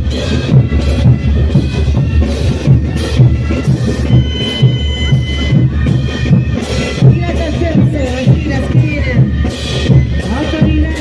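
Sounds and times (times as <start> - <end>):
steady drum beat: 0.0 - 11.0
wind instruments holding high notes: 0.0 - 11.0.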